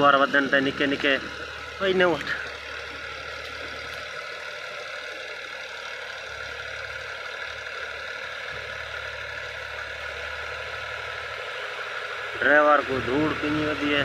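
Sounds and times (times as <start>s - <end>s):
tractor engine hum: 0.0s - 14.0s.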